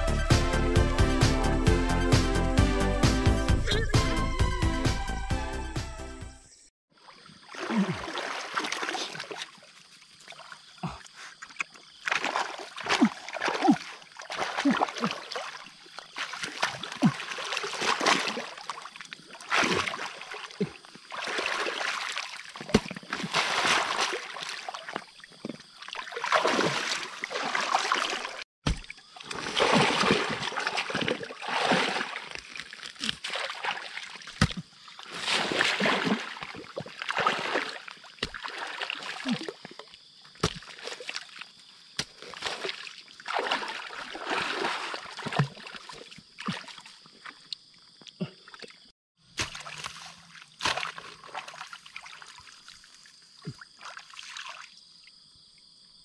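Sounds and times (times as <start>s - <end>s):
water splashing and sloshing: 6.9s - 55.2s.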